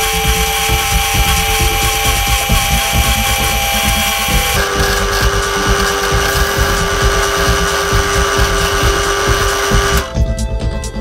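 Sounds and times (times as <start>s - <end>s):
drill motor whine: 0.0s - 10.2s.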